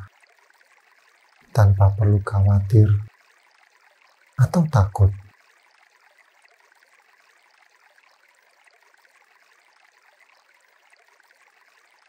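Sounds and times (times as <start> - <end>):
stream trickling: 0.0 - 12.0.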